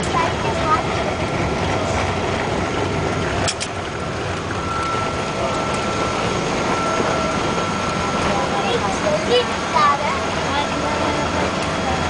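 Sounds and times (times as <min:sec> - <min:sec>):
airliner cabin roar: 0:00.0 - 0:12.0
thin steady whine: 0:00.0 - 0:12.0.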